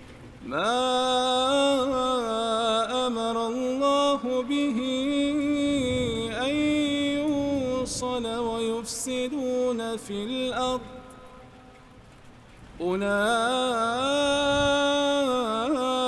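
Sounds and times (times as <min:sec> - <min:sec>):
person chanting melodically: 0:00.4 - 0:11.5, 0:12.8 - 0:16.0.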